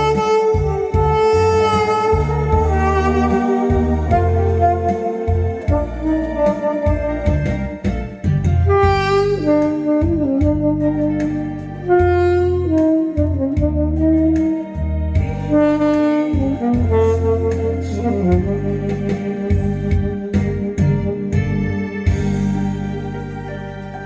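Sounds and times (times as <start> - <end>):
backing track with bass and beat: 0.0 - 24.0
saxophone duet: 0.0 - 24.0.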